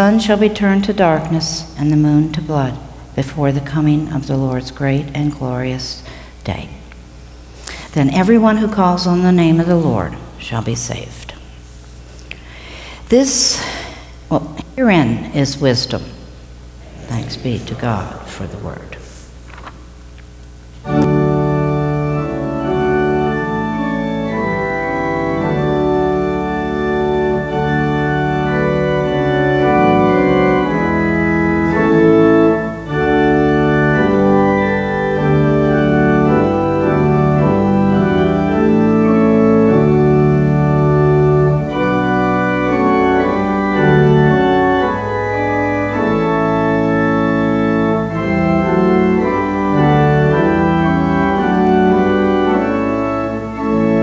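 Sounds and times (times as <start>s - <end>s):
church organ chords: 0.0s - 11.0s, 12.0s - 54.0s.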